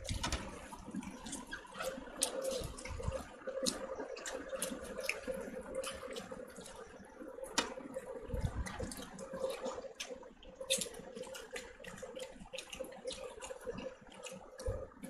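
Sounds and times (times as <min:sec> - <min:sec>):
faint steady hum: 0:00.0 - 0:15.0
fingers squishing rice: 0:00.0 - 0:15.0
mouth smacks while chewing: 0:01.0 - 0:07.0, 0:07.6 - 0:15.0.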